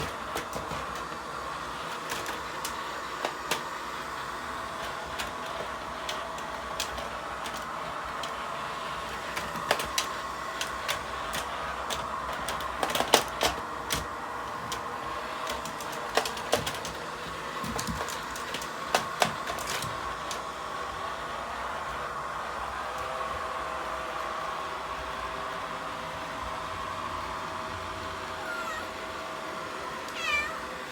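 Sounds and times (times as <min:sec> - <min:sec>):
robot vacuum whining: 0:00.0 - 0:30.9.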